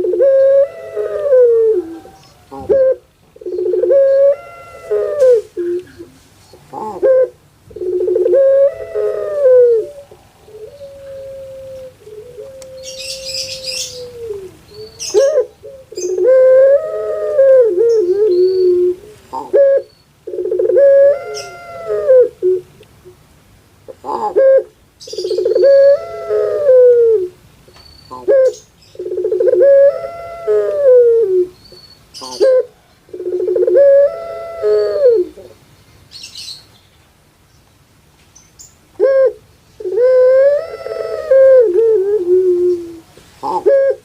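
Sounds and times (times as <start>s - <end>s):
dove cooing: 0.0s - 23.2s, 23.9s - 27.4s, 28.1s - 31.6s, 32.2s - 35.6s, 38.9s - 44.0s.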